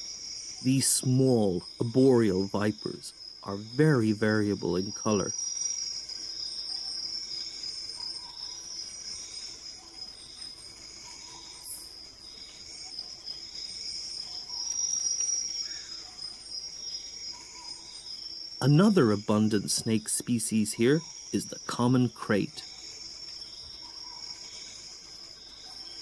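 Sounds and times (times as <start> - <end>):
insects trilling: 0.0 - 26.0
soft pulsing insect call: 0.0 - 26.0.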